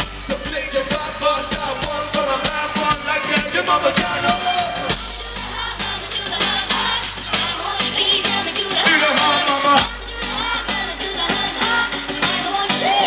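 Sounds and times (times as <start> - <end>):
person singing: 0.0 - 13.0
pop-rap drum beat and bass: 0.0 - 13.0.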